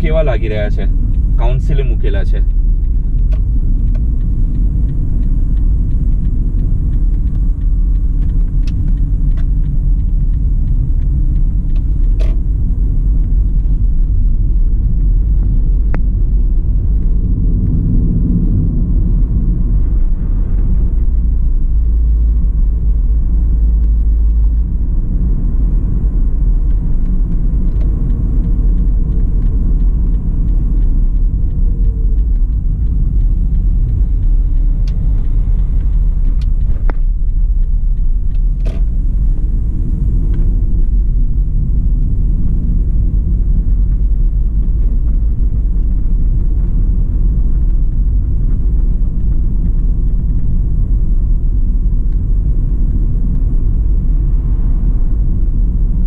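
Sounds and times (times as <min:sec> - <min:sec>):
car cabin road rumble: 0:00.0 - 0:56.0.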